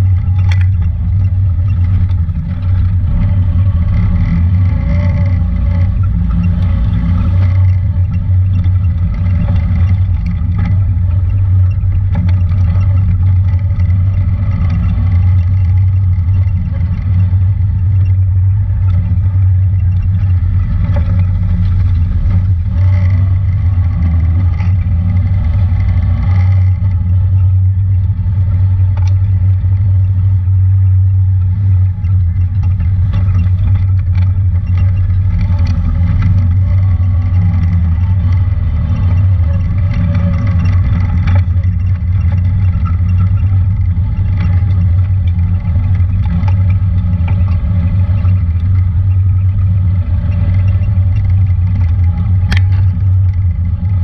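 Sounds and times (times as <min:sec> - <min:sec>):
knocks and rattles: 0:00.0 - 0:54.0
vehicle engine running: 0:00.0 - 0:54.0.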